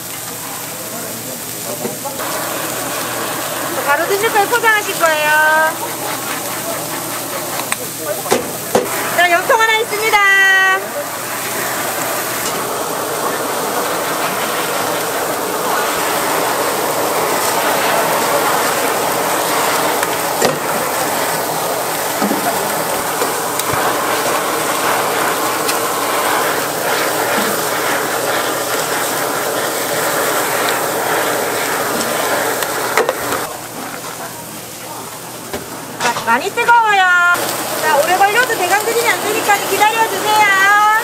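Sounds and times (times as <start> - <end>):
blowtorch hissing: 0.0 - 41.0.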